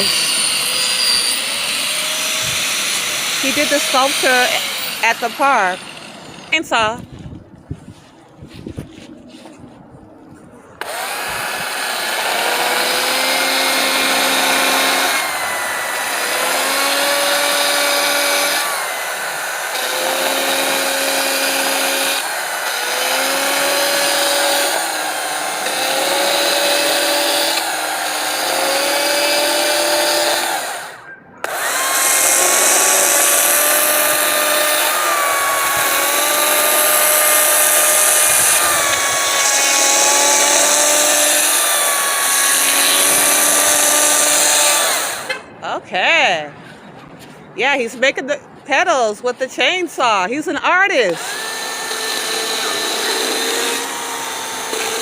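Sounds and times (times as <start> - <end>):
chainsaw carving wood: 0.0 - 6.6, 10.8 - 45.4, 51.0 - 55.0.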